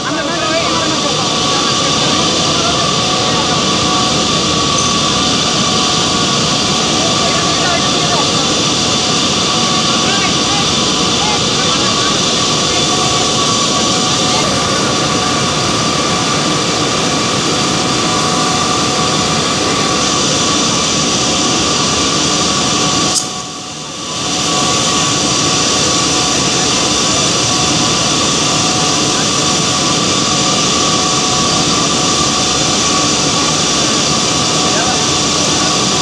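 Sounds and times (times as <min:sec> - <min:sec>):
high whine: 0:00.0 - 0:36.0
machinery roar: 0:00.0 - 0:36.0.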